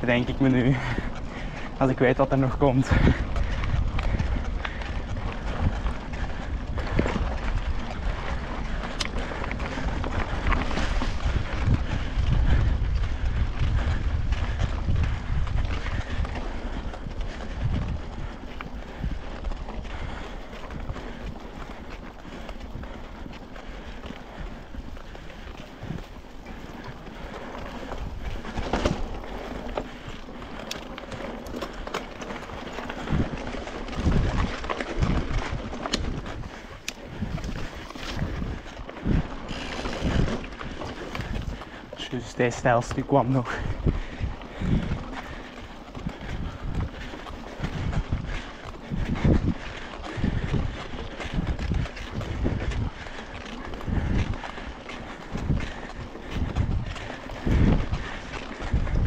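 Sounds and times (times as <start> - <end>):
bike and stones rattling: 0.0 - 59.0
tyres rumbling on gravel: 0.0 - 59.0
wind buffeting microphone: 0.0 - 59.0.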